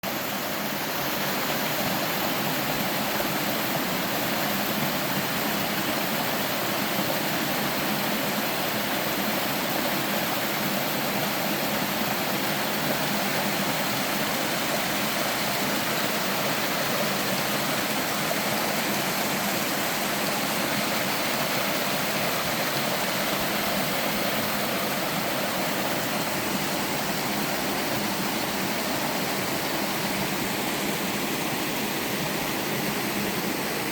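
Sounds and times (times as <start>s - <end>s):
waterfall splashing over rock: 0.1s - 33.9s.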